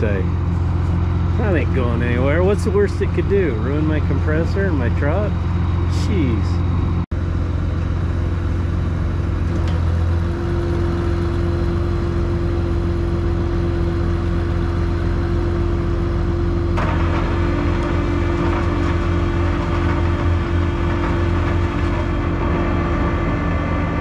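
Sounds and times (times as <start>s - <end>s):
road noise: 0.0s - 24.0s
truck engine hum: 0.0s - 24.0s.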